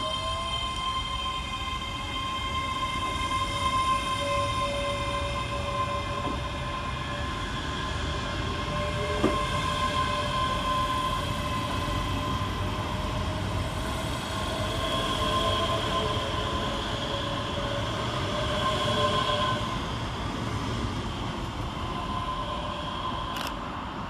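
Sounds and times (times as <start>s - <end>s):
electric train whining: 0.0s - 24.0s
low train rumble: 0.0s - 24.0s.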